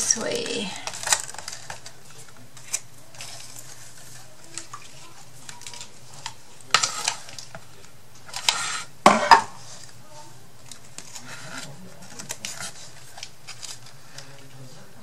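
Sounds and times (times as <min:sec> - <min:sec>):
craft materials rustling and clattering: 0:00.0 - 0:15.0.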